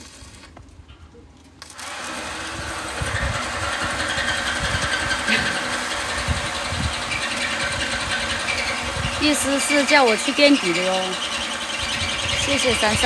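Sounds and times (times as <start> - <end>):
small machine whirring: 1.6 - 13.0.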